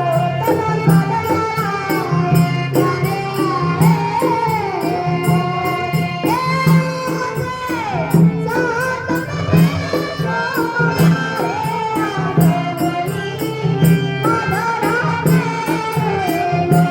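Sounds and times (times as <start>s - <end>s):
girl singing: 0.0s - 16.9s
steady percussion beat: 0.0s - 16.9s.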